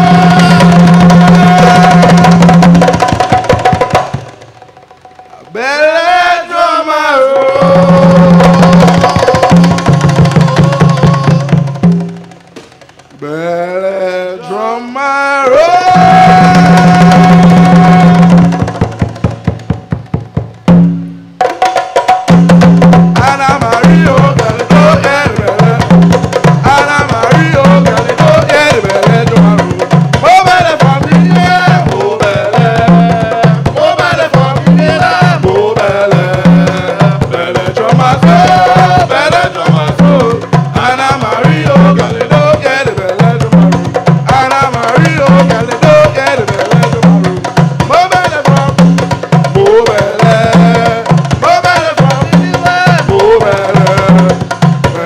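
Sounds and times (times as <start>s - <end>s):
man singing: 0.0s - 3.0s, 5.4s - 11.8s, 13.2s - 18.9s, 23.1s - 55.0s
hand drums playing: 0.0s - 13.8s, 15.5s - 55.0s.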